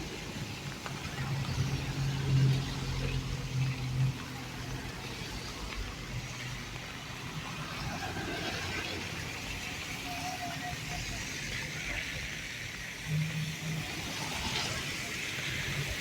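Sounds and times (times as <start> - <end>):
road traffic passing: 0.0 - 16.0
steady rain: 0.0 - 16.0.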